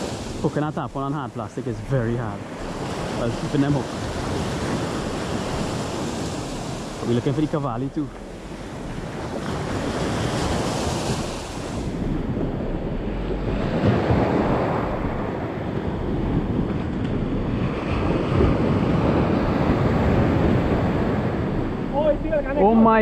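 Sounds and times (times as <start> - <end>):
surf washing up on beach: 0.0 - 23.0
wind rumbling on microphone: 0.0 - 23.0.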